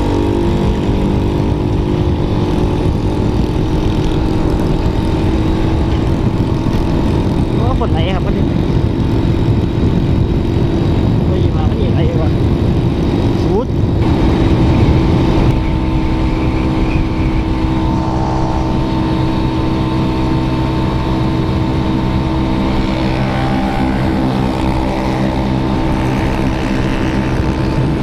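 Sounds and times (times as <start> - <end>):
motorcycle engine cruising: 0.0 - 28.0
road and wind noise: 0.0 - 28.0.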